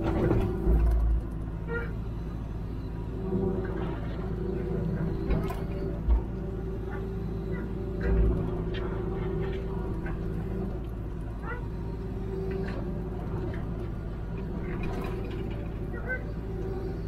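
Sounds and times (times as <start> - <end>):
diesel engine running: 0.0 - 17.0
hydraulics working: 0.0 - 17.0.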